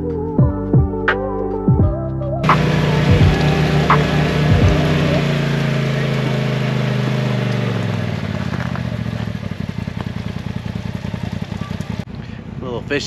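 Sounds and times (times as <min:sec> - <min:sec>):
vehicle engine idling: 0:02.4 - 0:13.0.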